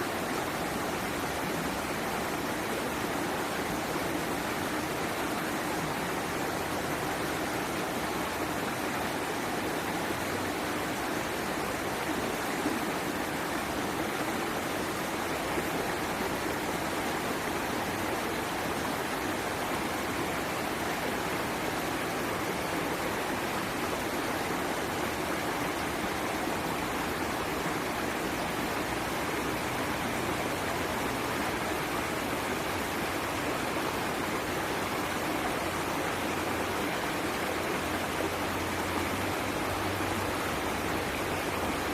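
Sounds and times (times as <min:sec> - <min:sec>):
water flowing over rocks: 0:00.0 - 0:41.9.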